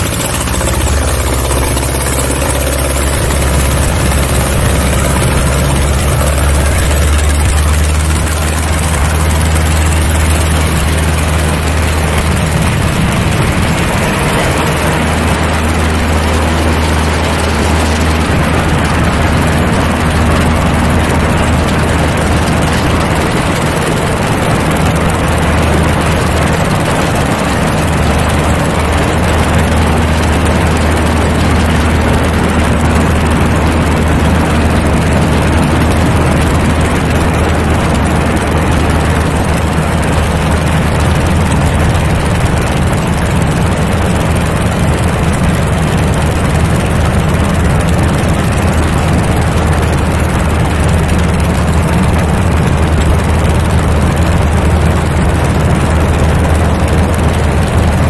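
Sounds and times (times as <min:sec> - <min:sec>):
light airplane engine at full power: 0:00.0 - 0:58.0.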